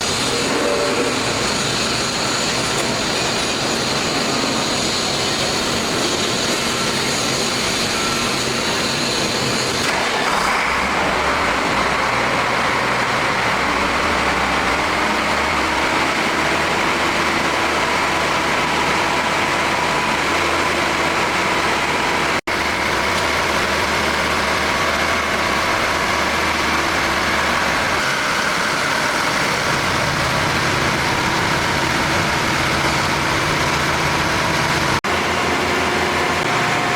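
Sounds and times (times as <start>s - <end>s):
wood chipper diesel engine running: 0.0s - 36.9s.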